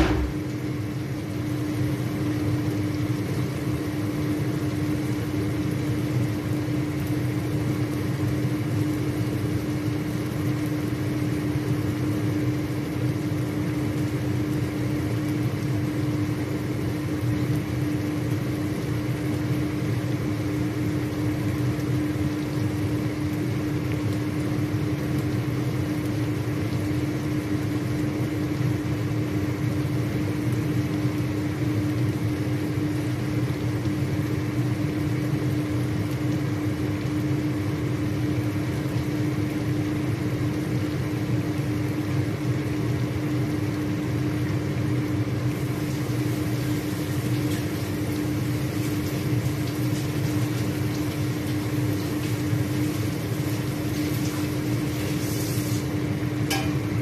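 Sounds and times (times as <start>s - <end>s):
chicken frying in oil: 0.0s - 57.0s
steady machine hum: 0.0s - 57.0s.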